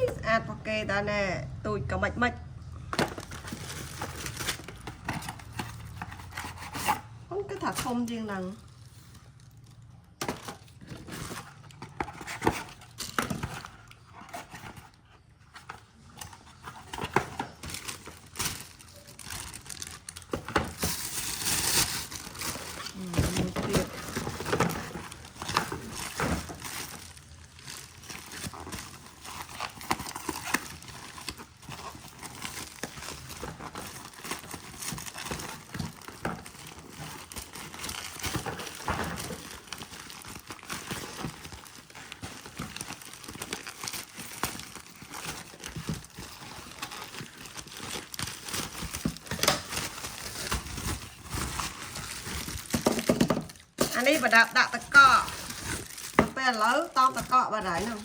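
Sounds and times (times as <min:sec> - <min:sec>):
packaging crinkling and rustling: 0:02.6 - 0:58.0.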